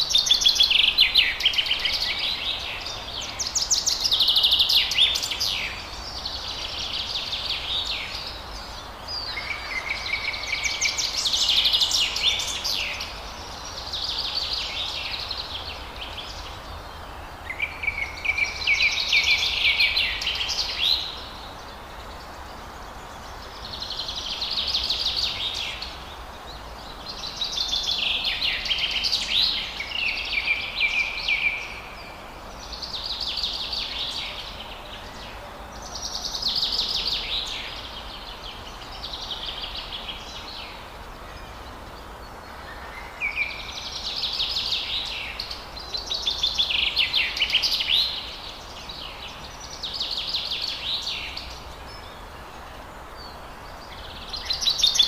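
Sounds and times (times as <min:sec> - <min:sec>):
low background hiss: 0:00.0 - 0:55.0
songbird twittering song: 0:00.0 - 0:55.0.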